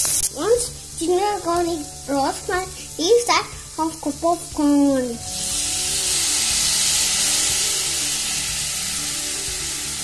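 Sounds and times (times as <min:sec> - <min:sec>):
loud sizzle: 0:00.0 - 0:10.0.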